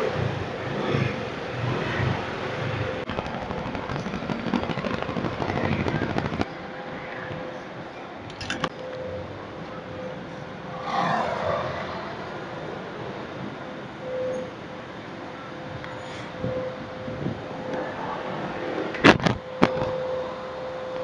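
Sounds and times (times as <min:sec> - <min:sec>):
steady background din: 0:00.0 - 0:21.0.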